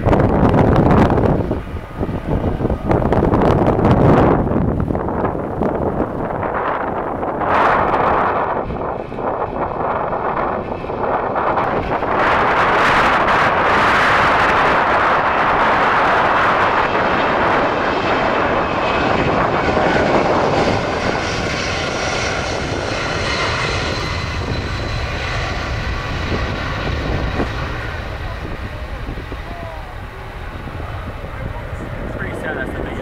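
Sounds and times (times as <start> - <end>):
airliner engines passing: 0.0 - 33.0.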